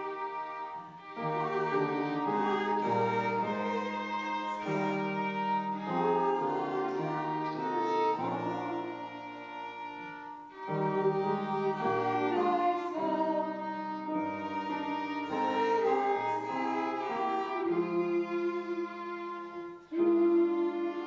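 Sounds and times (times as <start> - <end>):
slow hymn music: 0.0 - 21.0.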